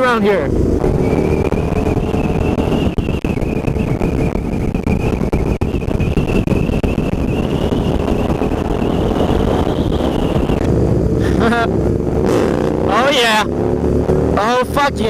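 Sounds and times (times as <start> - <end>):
motorcycle engine running: 0.0 - 15.0
steady high whine: 0.0 - 15.0
wind on microphone: 0.5 - 14.4.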